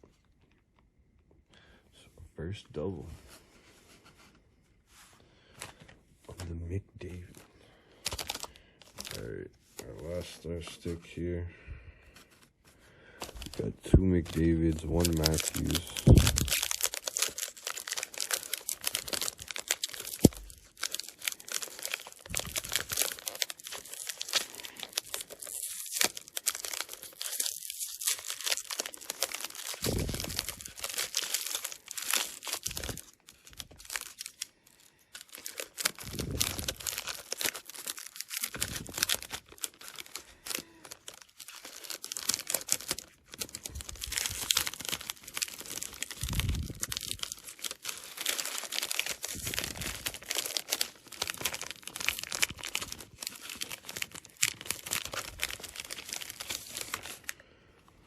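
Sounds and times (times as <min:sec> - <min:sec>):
plastic wrapping tearing and crinkling: 0:08.0 - 0:11.0, 0:13.2 - 0:57.5.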